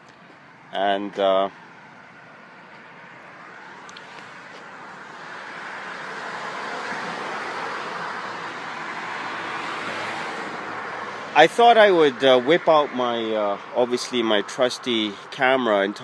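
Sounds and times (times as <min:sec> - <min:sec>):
car passing on road: 0:00.0 - 0:16.0.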